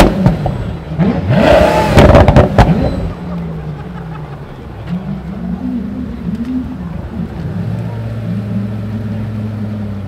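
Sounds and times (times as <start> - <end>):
car engine revving: 0.0 - 3.3, 4.7 - 10.0.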